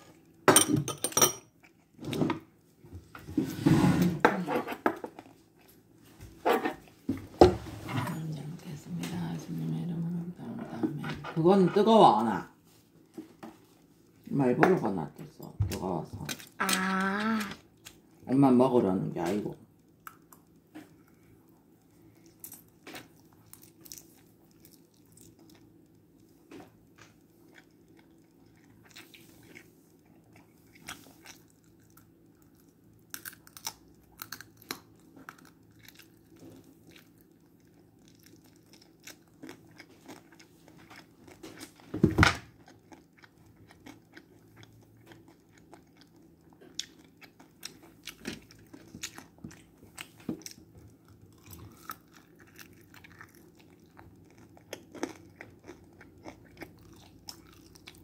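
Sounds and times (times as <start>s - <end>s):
child chewing rice: 0.0s - 0.5s, 1.3s - 58.0s.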